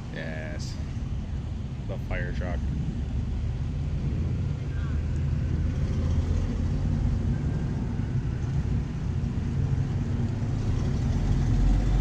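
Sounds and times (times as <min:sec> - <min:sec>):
cars driving past slowly: 0:00.0 - 0:12.0
deep vehicle rumble: 0:00.0 - 0:12.0.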